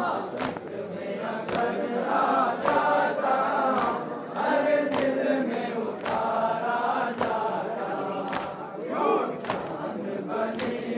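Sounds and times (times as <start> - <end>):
men chanting together: 0.0 - 10.9.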